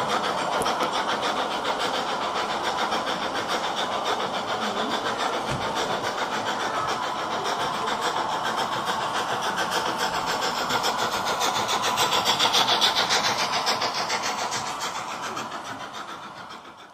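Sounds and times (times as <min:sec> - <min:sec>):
model steam train passing: 0:00.0 - 0:16.9.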